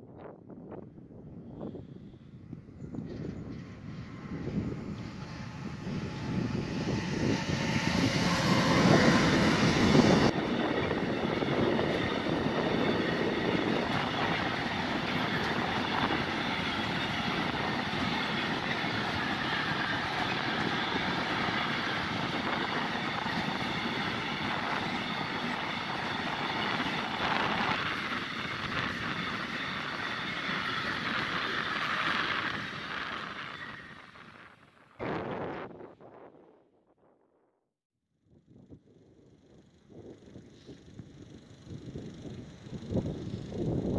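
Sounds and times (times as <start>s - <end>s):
electric locomotive passing: 0.6s - 35.6s, 38.9s - 43.9s
train wheels rumbling on rail: 0.8s - 34.8s, 39.3s - 43.9s.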